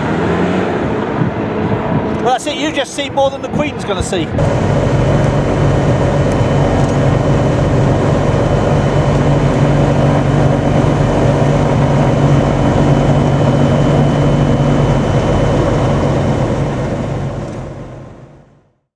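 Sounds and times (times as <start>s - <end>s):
high turbine whine: 0.0s - 18.8s
helicopter rotor noise: 0.8s - 18.6s.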